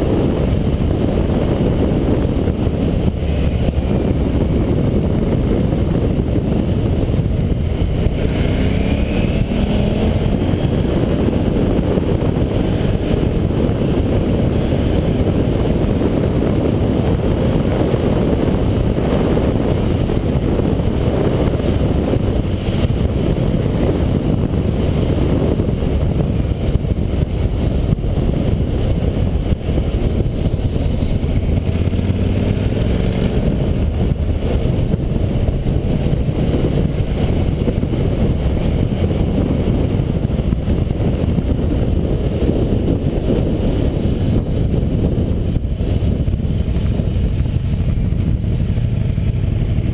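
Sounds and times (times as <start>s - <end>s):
motorcycle engine running: 0.0s - 49.9s
wind rush on microphone: 0.0s - 49.9s.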